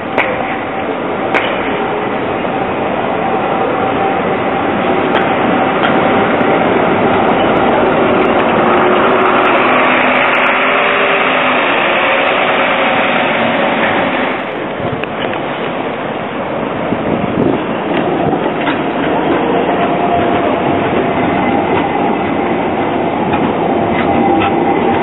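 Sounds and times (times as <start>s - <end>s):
tram and bus running noise: 0.0s - 25.0s.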